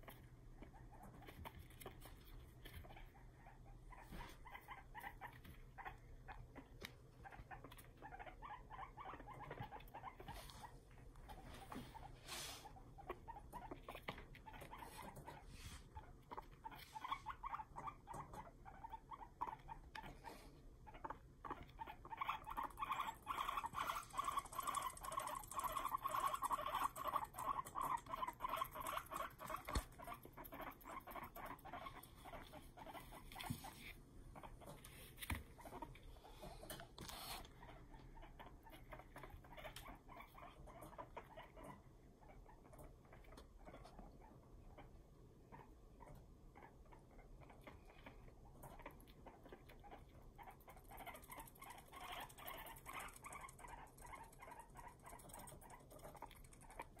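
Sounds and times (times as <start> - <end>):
guinea pig teeth chattering: 0.0 - 12.1, 12.7 - 57.0.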